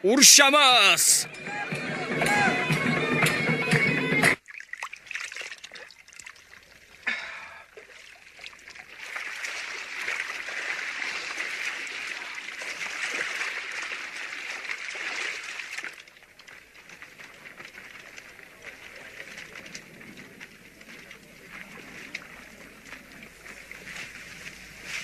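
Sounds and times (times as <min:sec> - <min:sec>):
water trickling: 0:04.4 - 0:24.9.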